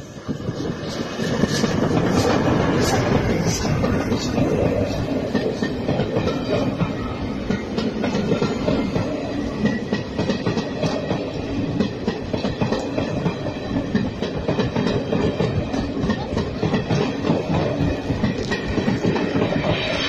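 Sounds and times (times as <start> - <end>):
train wheels clattering on track: 0.0 - 20.0.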